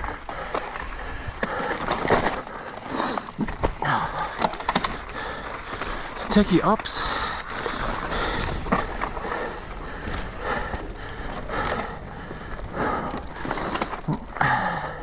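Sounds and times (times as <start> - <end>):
bike rattles and clicks: 0.0 - 15.0
bike tyres rumbling on dirt: 0.0 - 15.0
rider breathing hard: 0.0 - 15.0.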